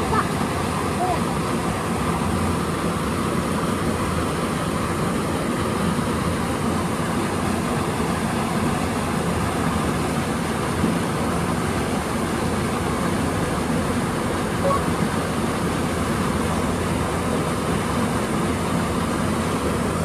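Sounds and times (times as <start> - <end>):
water rushing from culvert: 0.0 - 20.0.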